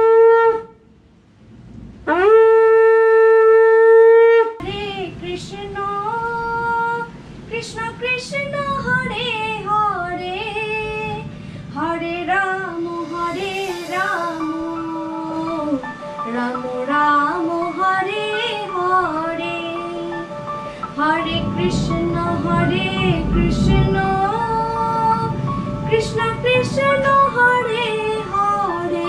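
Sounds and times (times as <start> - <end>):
person singing wavering melody: 4.6 - 29.0.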